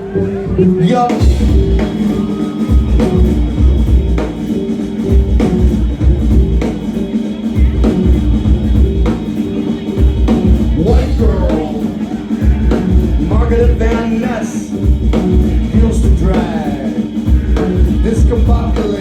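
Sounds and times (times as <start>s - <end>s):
deep pulsing bass line: 0.0s - 19.0s
drum kit steady beat: 0.0s - 19.0s.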